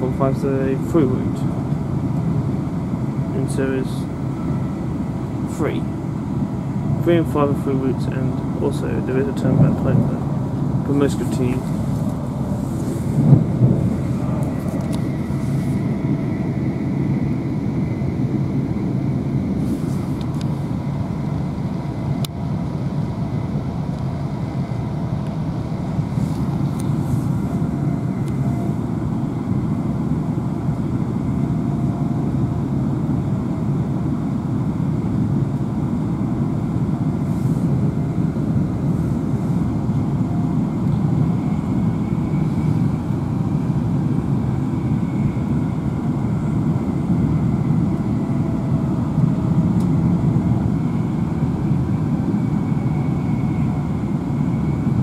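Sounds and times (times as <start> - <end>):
faint high whine: 0.0 - 22.3, 23.0 - 35.0, 35.6 - 55.0
train wheels rumbling on rail: 0.0 - 55.0.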